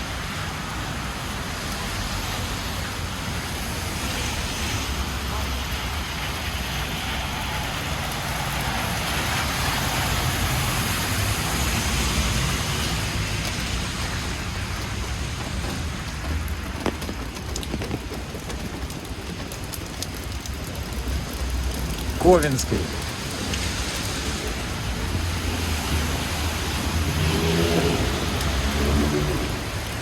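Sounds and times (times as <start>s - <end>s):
rain falling on street: 0.0s - 30.0s
traffic on wet road: 0.0s - 30.0s.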